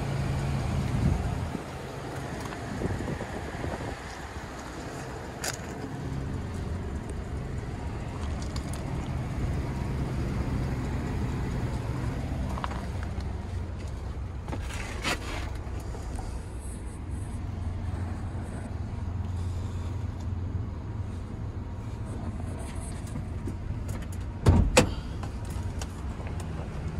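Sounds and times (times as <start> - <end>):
truck engine idling: 0.0 - 26.9.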